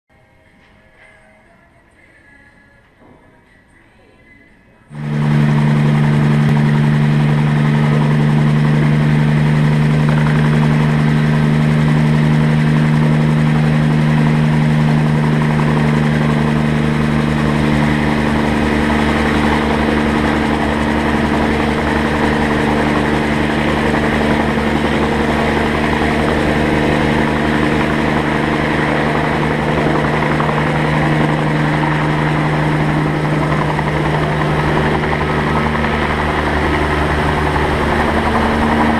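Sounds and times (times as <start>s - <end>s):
helicopter engine and rotor drone: 4.9s - 38.9s
helicopter high note lifting off: 4.9s - 38.9s.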